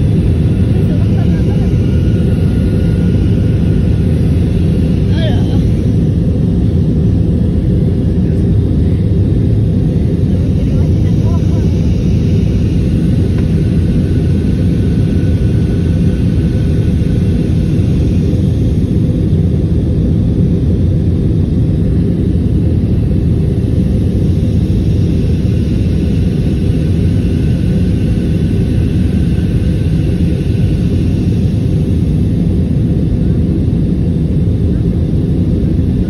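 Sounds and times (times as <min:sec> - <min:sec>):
jet engine and airflow rumble: 0:00.0 - 0:36.0.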